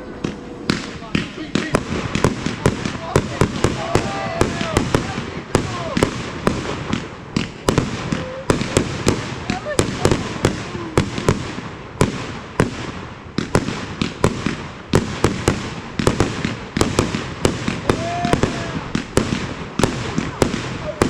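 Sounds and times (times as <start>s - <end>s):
fireworks bangs: 0.0s - 21.0s
noisy rumble: 0.0s - 21.0s.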